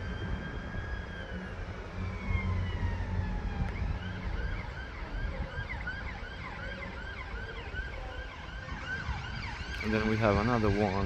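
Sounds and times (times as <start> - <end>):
emergency vehicle siren: 0.0 - 11.0.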